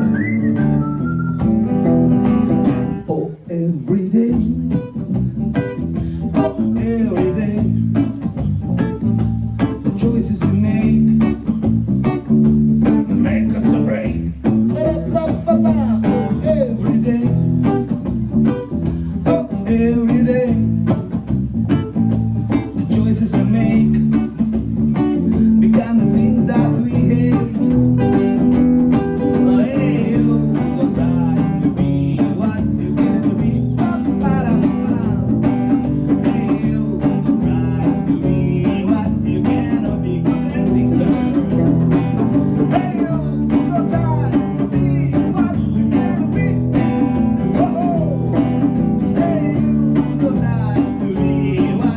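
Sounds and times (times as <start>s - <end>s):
live blues band playing: 0.0s - 51.9s.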